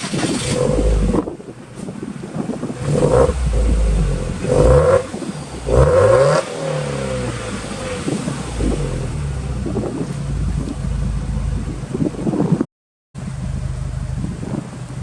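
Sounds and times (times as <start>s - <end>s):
car engine idling: 0.0s - 12.6s, 13.2s - 15.0s
car engine revving: 0.0s - 12.6s.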